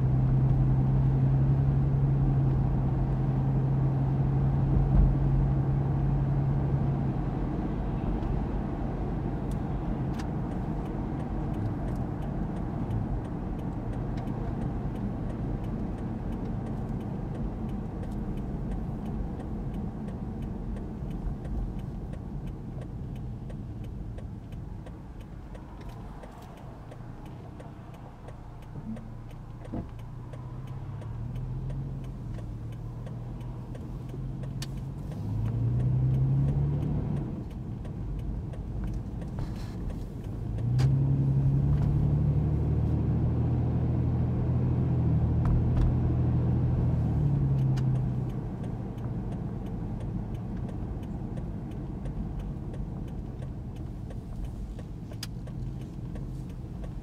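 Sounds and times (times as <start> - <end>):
car engine accelerating: 0.0 - 57.0
road rumble: 0.0 - 57.0.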